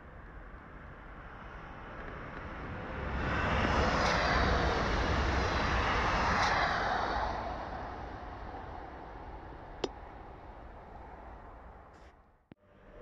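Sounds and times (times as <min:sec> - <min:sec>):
passing train rail noise: 0:01.2 - 0:13.0.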